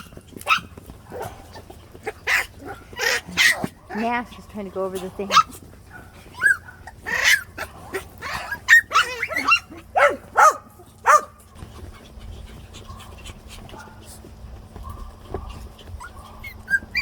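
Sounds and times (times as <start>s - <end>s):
puppies yipping and barking: 0.0s - 17.0s.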